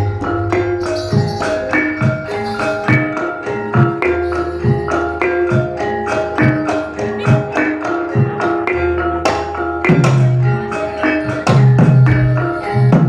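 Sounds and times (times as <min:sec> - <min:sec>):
drum strokes: 0:00.0 - 0:13.0
gamelan metallophones melody: 0:00.0 - 0:13.0.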